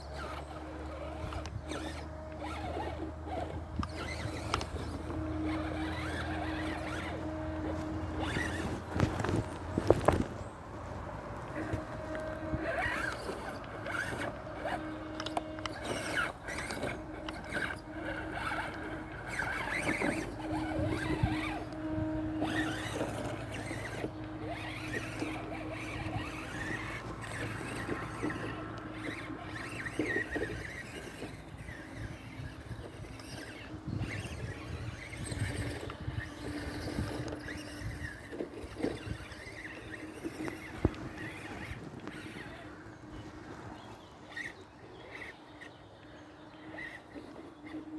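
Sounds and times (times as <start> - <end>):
electric motor whining: 0.0 - 47.9
tyres scraping rough ground: 0.0 - 47.9.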